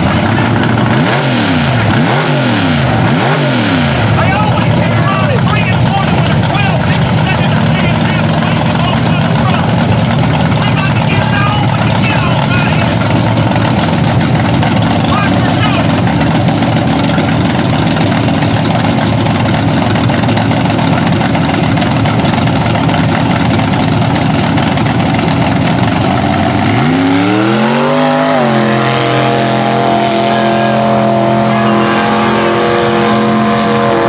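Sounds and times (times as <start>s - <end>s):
truck engine revving: 0.0s - 34.0s.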